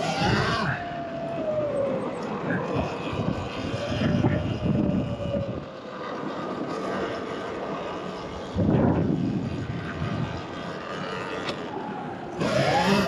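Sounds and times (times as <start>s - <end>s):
electric motorbike motor whining: 0.0s - 13.0s
wind buffeting microphone: 0.0s - 13.0s.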